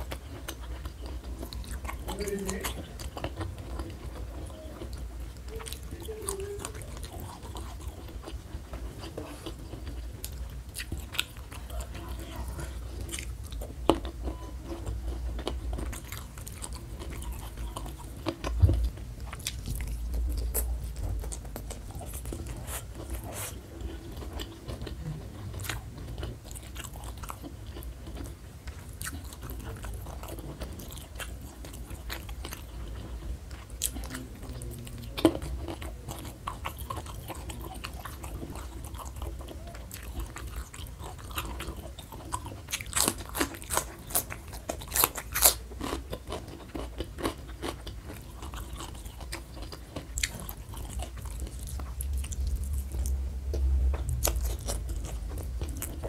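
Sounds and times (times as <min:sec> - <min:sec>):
chewing crisp raw vegetables: 0:00.0 - 0:56.0.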